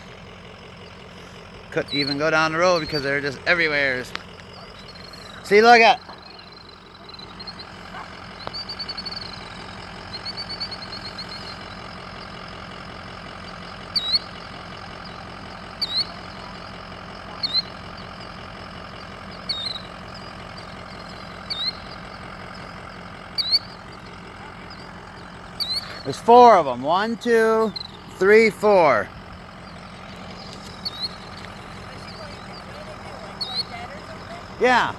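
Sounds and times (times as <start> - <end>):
vehicle engine idling: 0.0 - 34.9
bird alarm calls: 1.1 - 34.9.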